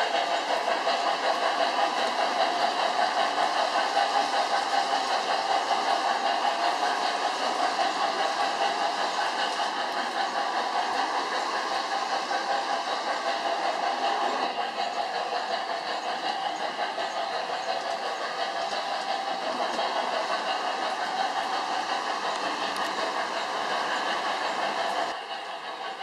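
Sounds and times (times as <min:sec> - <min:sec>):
model train wheels rolling on rails: 0:00.0 - 0:26.0.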